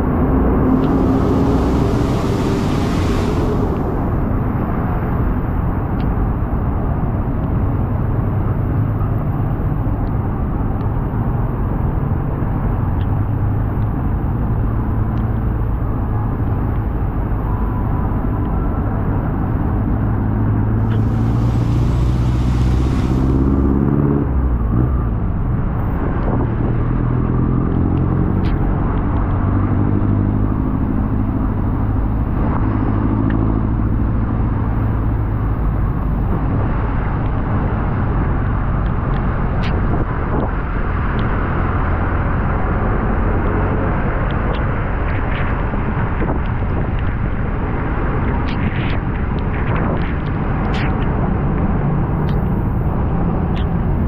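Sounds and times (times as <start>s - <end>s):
road and wind noise: 0.0s - 54.0s.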